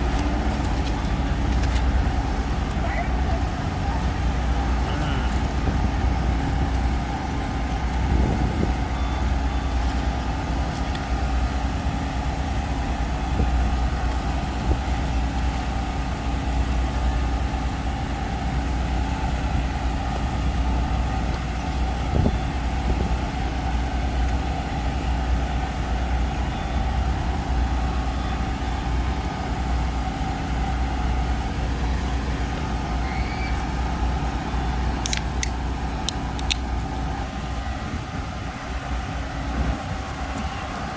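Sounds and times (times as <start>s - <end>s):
engine idling hum: 0.0s - 40.9s.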